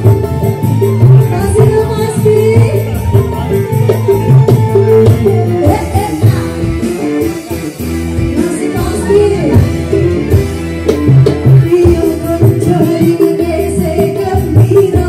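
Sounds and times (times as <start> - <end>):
electric guitar: 0.0 - 15.0
live band music through speakers: 0.0 - 15.0.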